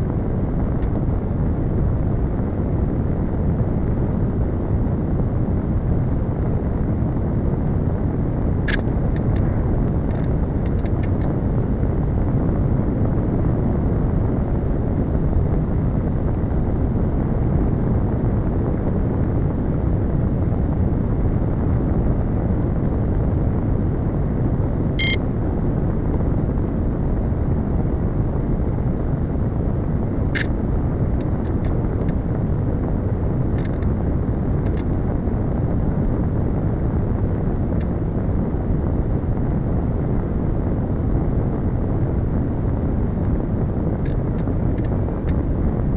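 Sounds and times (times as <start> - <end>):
wind rushing on microphone: 0.0 - 45.9.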